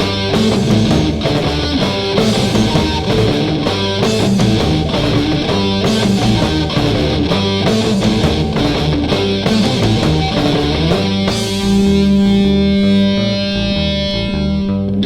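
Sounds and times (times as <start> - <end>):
steady drum beat: 0.0 - 13.0
rock guitar: 0.0 - 15.0.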